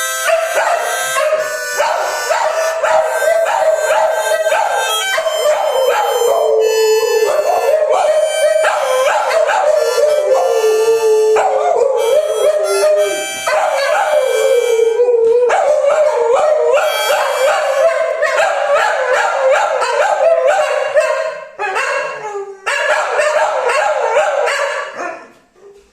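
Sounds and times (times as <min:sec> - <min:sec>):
harmonica chords: 0:00.0 - 0:21.0
dogs howling: 0:00.2 - 0:25.7.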